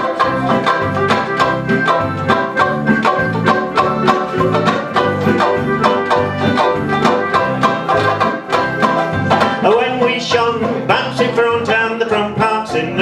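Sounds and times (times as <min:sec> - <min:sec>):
strummed string accompaniment: 0:00.0 - 0:13.0.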